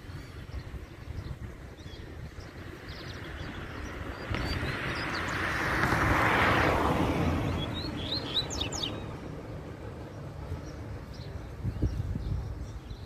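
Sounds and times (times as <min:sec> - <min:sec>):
vehicle passing by: 0:02.2 - 0:13.0.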